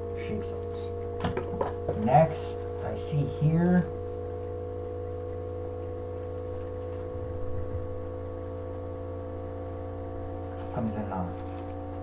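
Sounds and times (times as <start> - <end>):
hum of held tones: 0.0 - 12.0.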